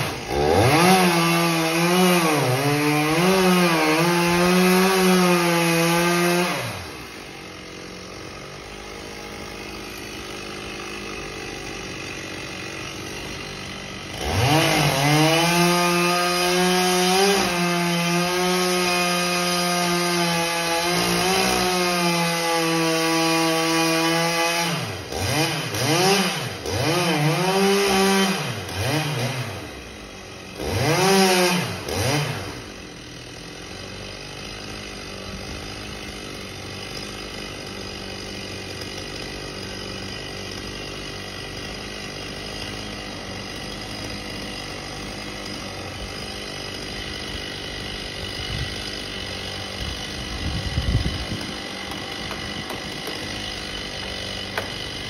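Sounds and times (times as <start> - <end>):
chainsaw cutting and idling: 0.0 - 55.0.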